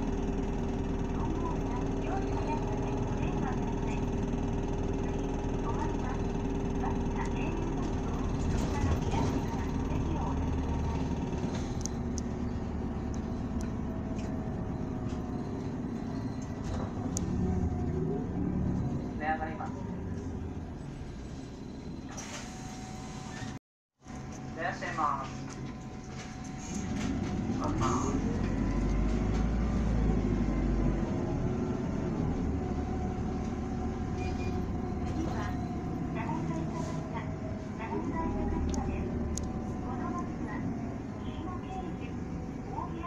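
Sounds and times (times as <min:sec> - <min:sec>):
road noise: 0:00.0 - 0:23.4, 0:24.1 - 0:43.0
diesel bus engine rumble: 0:00.0 - 0:43.0.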